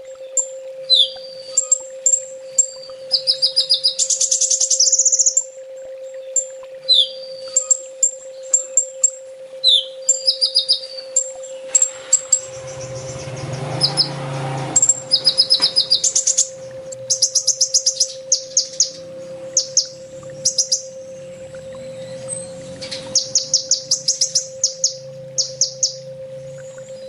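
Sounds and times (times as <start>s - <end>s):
low electrical hum: 0.0s - 27.0s
sunbird chirps and trills: 0.0s - 27.0s.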